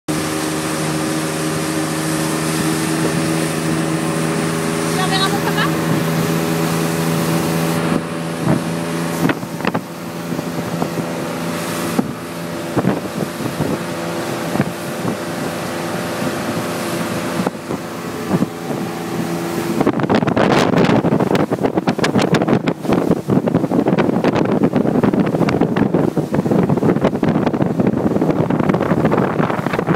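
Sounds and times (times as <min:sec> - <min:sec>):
boat motor running: 0:00.1 - 0:29.9.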